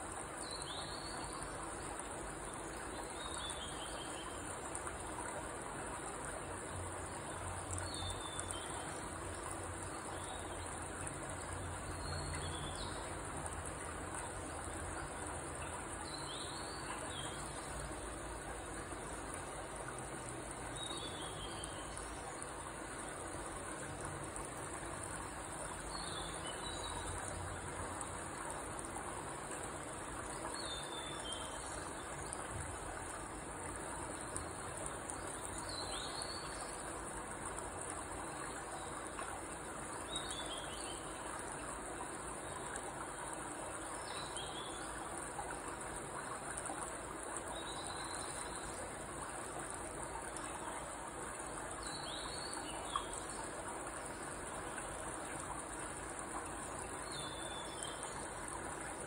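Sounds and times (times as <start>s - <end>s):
low hiss: 0.0s - 59.0s.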